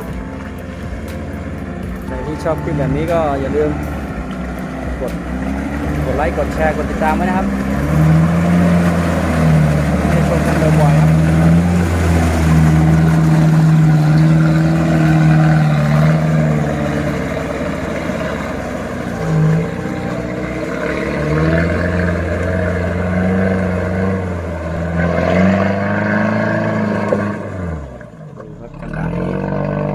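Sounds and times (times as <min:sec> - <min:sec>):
pickup truck engine in mud: 0:00.0 - 0:29.9.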